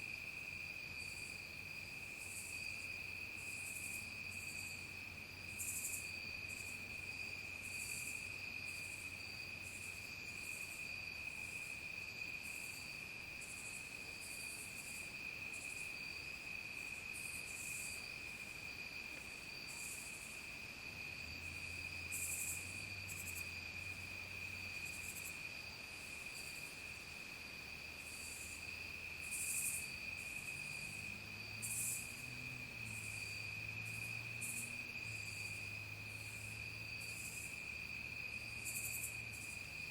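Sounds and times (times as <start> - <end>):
crickets trilling: 0.0 - 39.9
fainter higher insect trill: 0.1 - 39.9.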